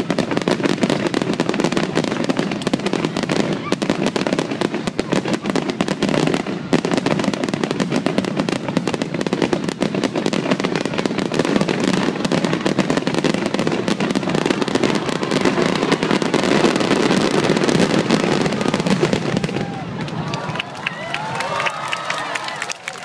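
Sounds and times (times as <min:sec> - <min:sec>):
fireworks barrage bursting: 0:00.0 - 0:20.6.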